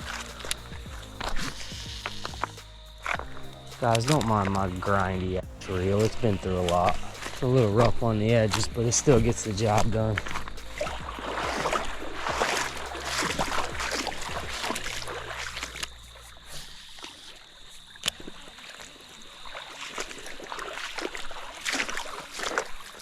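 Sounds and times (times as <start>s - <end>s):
water splashing and gurgling: 0.0s - 23.0s.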